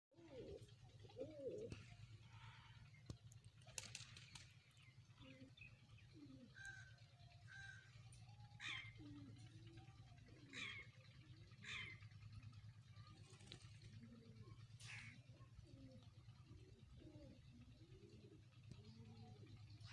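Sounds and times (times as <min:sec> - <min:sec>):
pigeons cooing: 0:00.2 - 0:19.9
steady low hum: 0:00.2 - 0:19.9.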